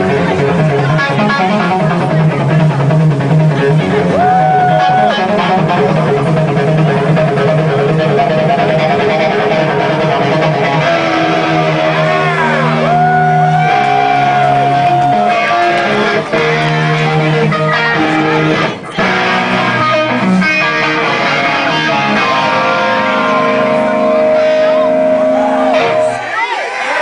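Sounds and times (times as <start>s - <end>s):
electric guitar solo: 0.0s - 26.7s.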